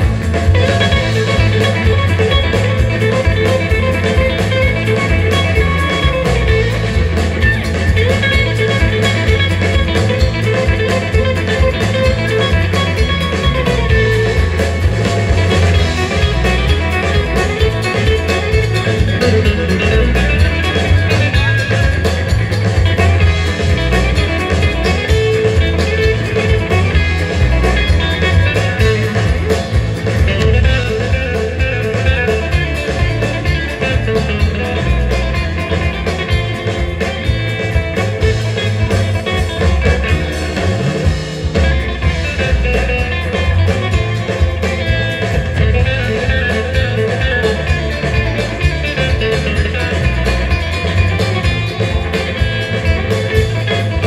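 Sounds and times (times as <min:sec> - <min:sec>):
drum kit: 0:00.0 - 0:54.0
electric bass: 0:00.0 - 0:54.0
electric lead guitar melody: 0:00.0 - 0:54.0
rhythm guitar: 0:00.0 - 0:54.0.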